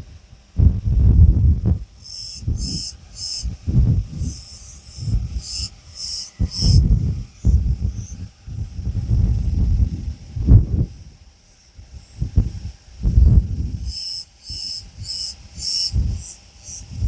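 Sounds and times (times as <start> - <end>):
cicada buzzing in pulses: 0.0 - 17.0.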